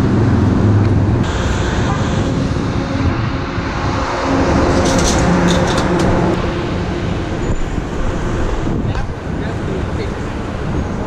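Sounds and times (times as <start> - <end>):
city traffic with engines: 0.0 - 11.0.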